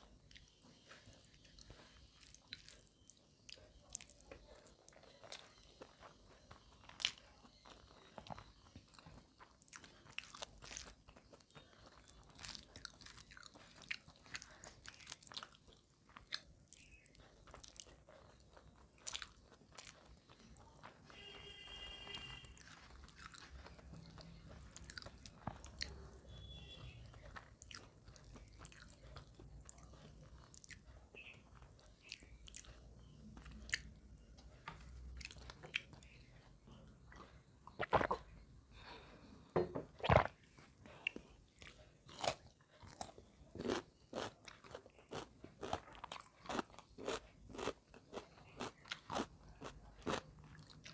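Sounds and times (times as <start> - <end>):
soft chewing: 0.0 - 50.9.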